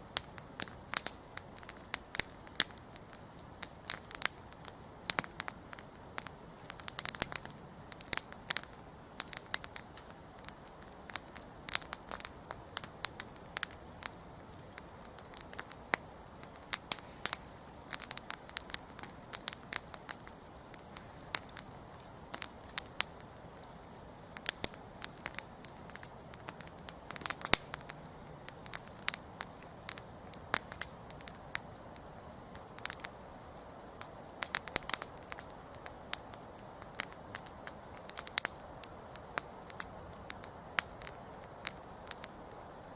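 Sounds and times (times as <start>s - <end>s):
campfire crackling: 0.0s - 42.9s
soft steady hiss: 0.0s - 42.9s.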